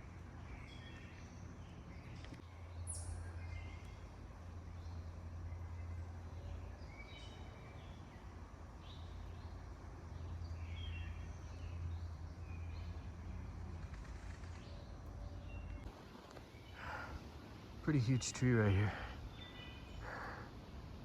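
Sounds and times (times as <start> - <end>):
wild birds chirping: 0.0 - 21.0.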